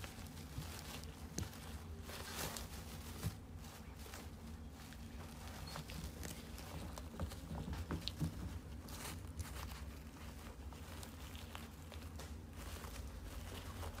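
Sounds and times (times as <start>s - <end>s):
low steady hum: 0.0s - 14.0s
puppy pawing artificial flowers: 0.0s - 14.0s.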